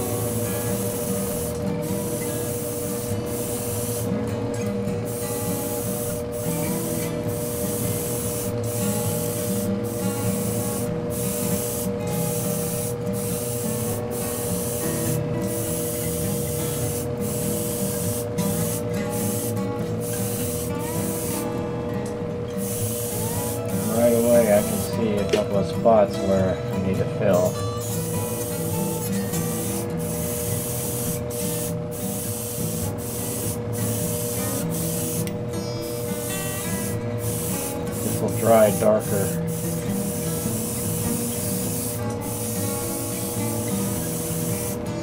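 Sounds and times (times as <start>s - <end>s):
airbrush hissing: 0.0s - 4.2s, 5.1s - 21.5s, 22.6s - 25.0s, 27.8s - 35.3s, 35.9s - 44.9s.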